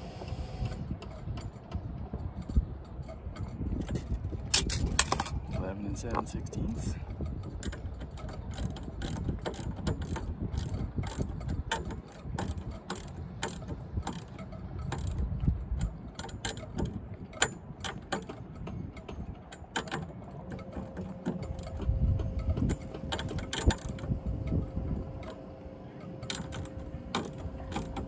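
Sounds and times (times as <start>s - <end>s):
low wind rumble on microphone: 0.0s - 28.0s.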